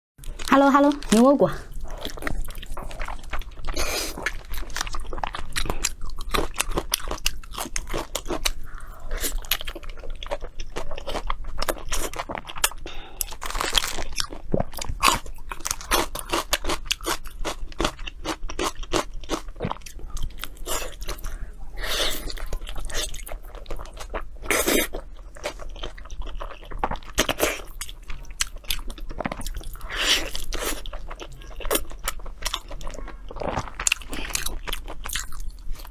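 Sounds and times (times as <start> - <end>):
crackly chewing: 0.2 - 35.9.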